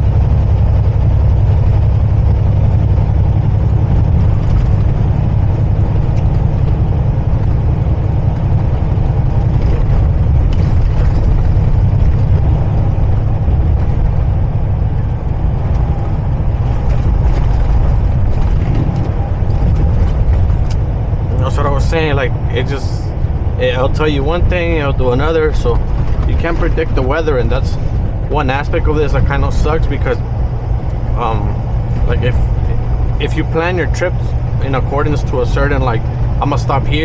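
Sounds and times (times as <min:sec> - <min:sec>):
road noise: 0:00.0 - 0:37.0
truck engine drone: 0:00.0 - 0:37.0.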